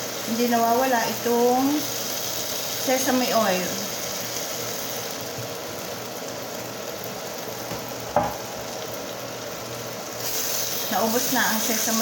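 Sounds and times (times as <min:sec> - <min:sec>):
sauce sizzling in frying pan: 0:00.0 - 0:12.0.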